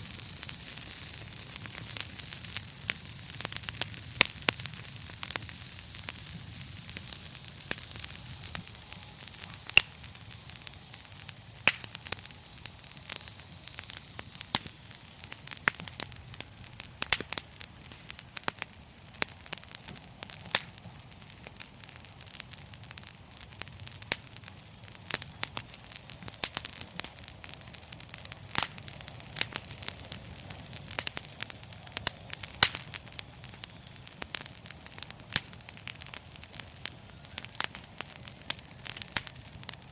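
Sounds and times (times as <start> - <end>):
fire crackling and popping: 0.0 - 39.9
flames hissing and rumbling: 0.0 - 39.9.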